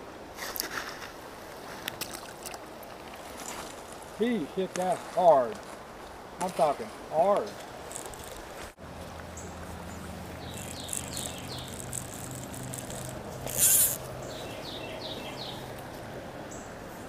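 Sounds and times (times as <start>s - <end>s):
faint steady rush of noise: 0.0s - 17.0s.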